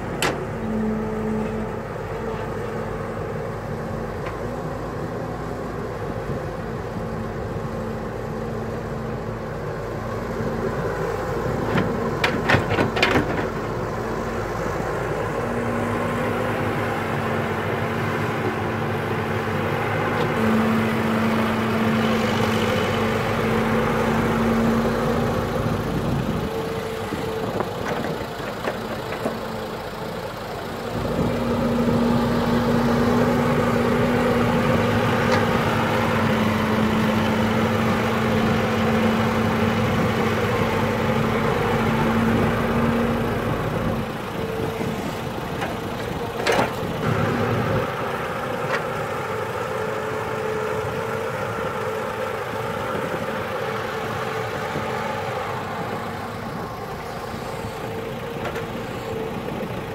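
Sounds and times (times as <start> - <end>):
excavator diesel engine droning: 0.0 - 59.9.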